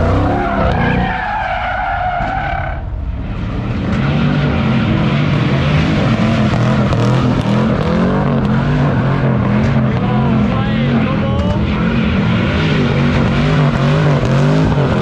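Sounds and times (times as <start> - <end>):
car engine revving: 0.0 - 15.0
tyres spinning on asphalt: 0.0 - 15.0.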